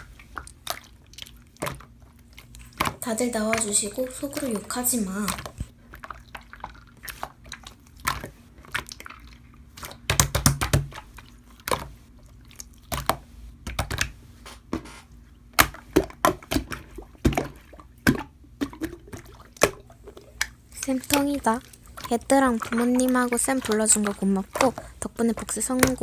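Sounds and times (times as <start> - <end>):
slime squishing: 0.0 - 26.0.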